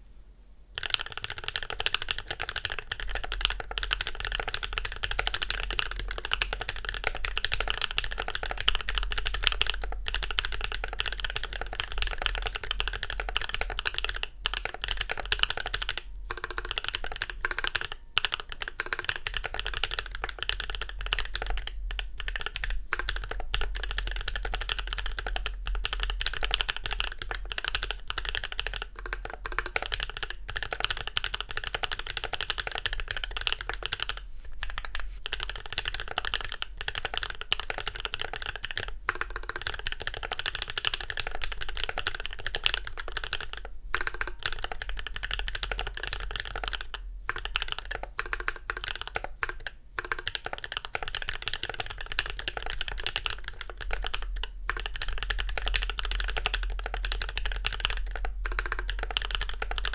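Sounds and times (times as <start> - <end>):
fast typing on mechanical keyboard: 0.8 - 59.9.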